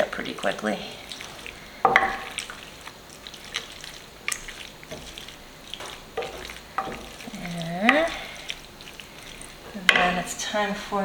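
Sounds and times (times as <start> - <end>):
wet squelching food: 0.0 - 11.0.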